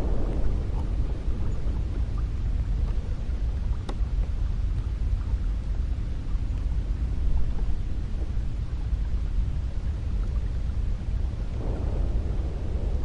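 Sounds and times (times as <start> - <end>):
wind blowing with low rumble: 0.0 - 13.0.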